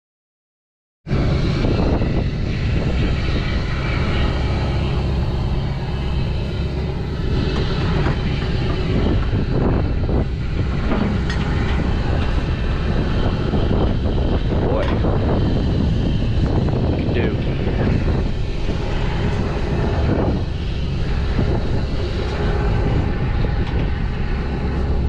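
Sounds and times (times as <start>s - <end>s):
engine running steadily: 1.1s - 25.0s.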